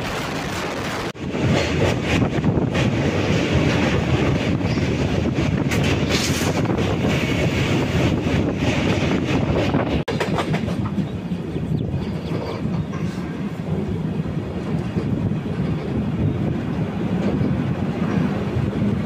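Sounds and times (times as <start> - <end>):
rail clicks: 0.0 - 19.0
train wheels rumbling on track: 0.0 - 19.0.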